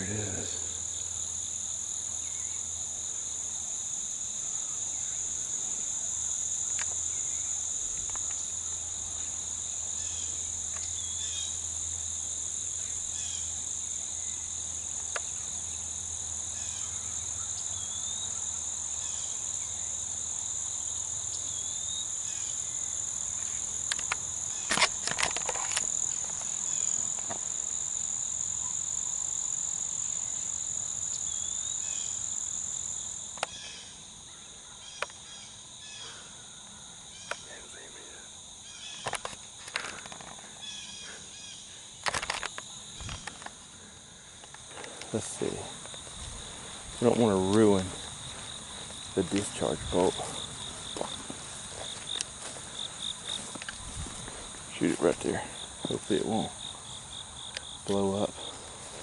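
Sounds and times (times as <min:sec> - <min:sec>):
insect chorus droning: 0:00.0 - 0:59.0.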